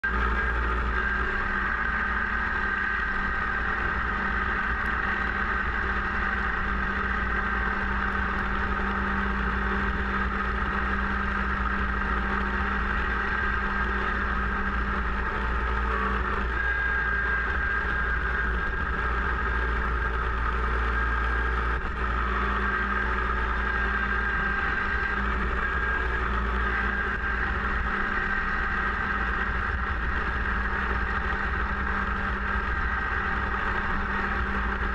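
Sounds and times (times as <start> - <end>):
snowblower high whine: 0.0 - 34.9
tractor diesel engine running: 0.0 - 34.9.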